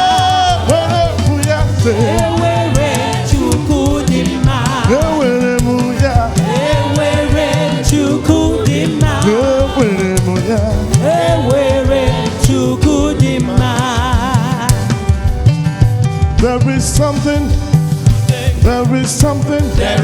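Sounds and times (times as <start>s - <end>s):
drums keeping a steady beat: 0.0s - 20.0s
gospel band and choir: 0.0s - 20.0s.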